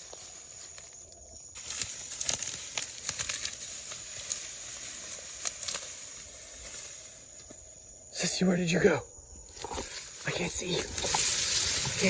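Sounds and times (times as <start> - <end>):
brush and twigs rustling: 0.0 - 12.0
night insects chirring: 0.0 - 12.0.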